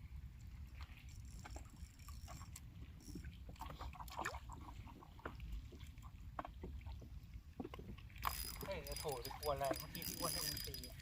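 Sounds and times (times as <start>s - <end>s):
water around boat: 0.0s - 11.0s.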